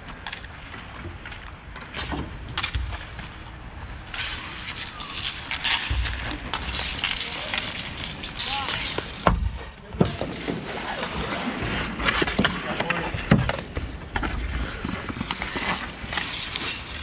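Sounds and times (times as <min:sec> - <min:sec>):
hockey sticks and puck clacking: 0:00.0 - 0:17.0
skate wheels hissing on rink: 0:00.1 - 0:17.0.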